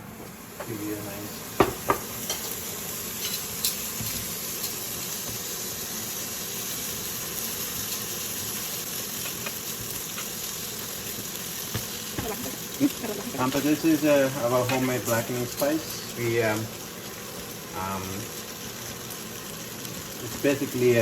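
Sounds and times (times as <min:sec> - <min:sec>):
butter sizzling in a pan: 0:00.0 - 0:21.0.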